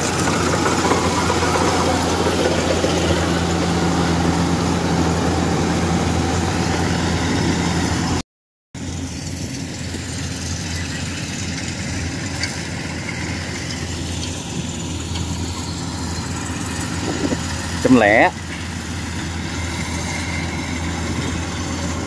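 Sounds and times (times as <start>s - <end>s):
combine harvester engine running: 0.0s - 8.2s, 8.8s - 22.0s.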